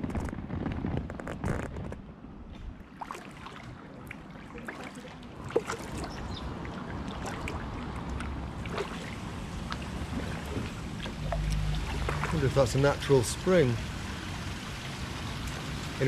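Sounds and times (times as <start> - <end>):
water splashes: 2.7 - 16.0
water dripping and trickling: 2.9 - 16.0.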